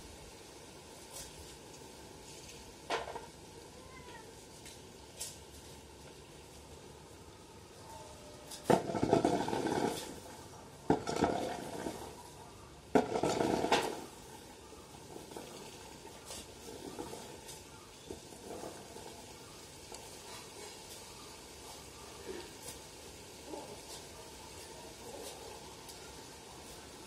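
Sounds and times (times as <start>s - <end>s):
nuts rattling under a rake: 0.1s - 3.7s, 7.7s - 27.0s.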